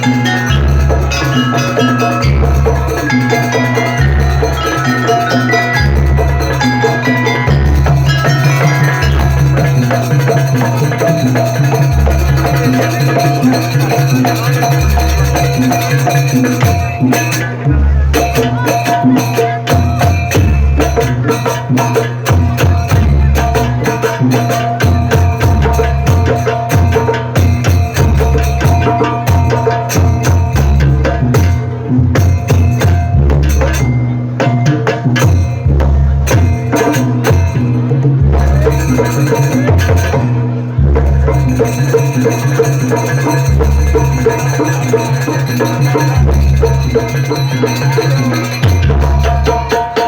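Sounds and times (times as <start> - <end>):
hand drumming: 0.0 - 50.0
sustained melodic tones: 0.0 - 50.0.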